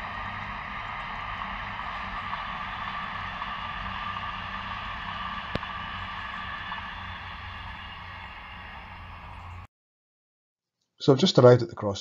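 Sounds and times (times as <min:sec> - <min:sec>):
distant train rumble: 0:00.0 - 0:09.7.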